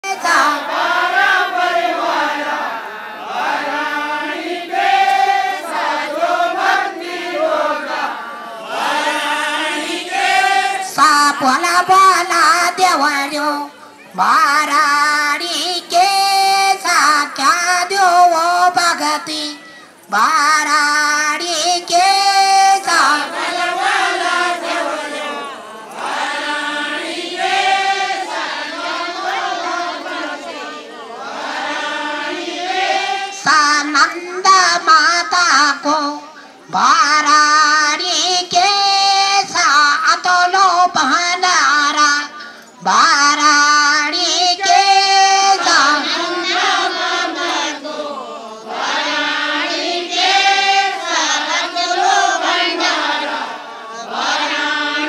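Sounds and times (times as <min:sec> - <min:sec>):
women singing a folk song: 0:00.0 - 0:55.0.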